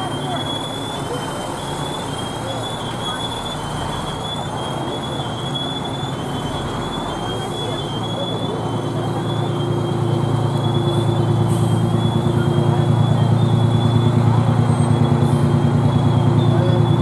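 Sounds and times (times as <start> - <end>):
fire engine rumbling: 0.0 - 17.0.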